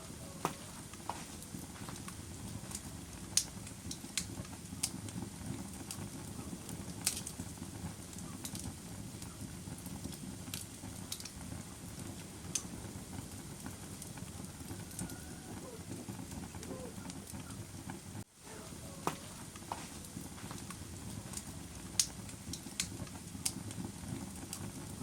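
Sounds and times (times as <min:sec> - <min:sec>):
fire crackles and pops: 0:00.0 - 0:25.0
wood fire rushing: 0:00.0 - 0:25.0.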